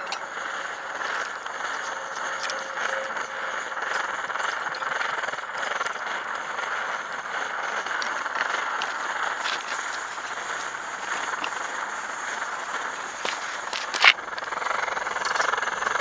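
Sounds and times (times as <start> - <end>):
camp stove burning with rushing hiss: 0.0 - 16.0.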